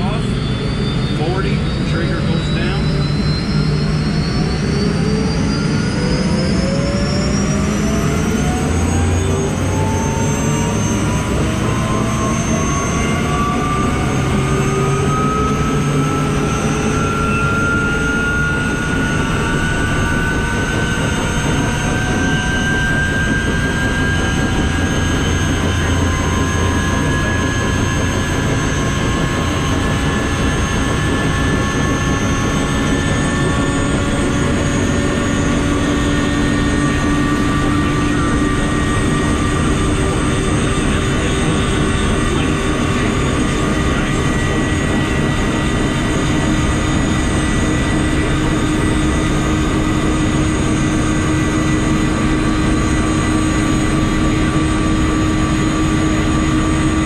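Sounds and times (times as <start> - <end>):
dense engine rumble: 0.0 - 57.0
helicopter turbine whine: 0.0 - 57.0.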